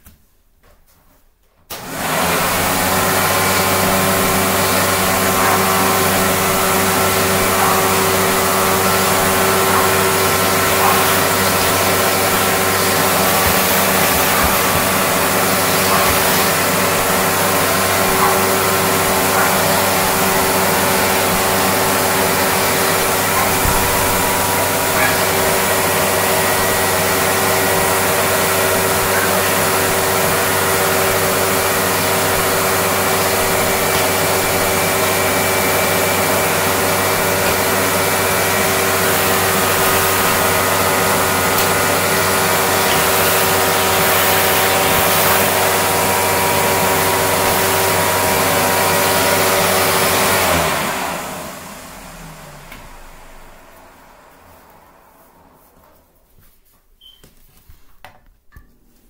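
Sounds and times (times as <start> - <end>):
vacuum cleaner whining: 1.7 - 56.3
hose sucking at tiled floor: 1.8 - 50.8.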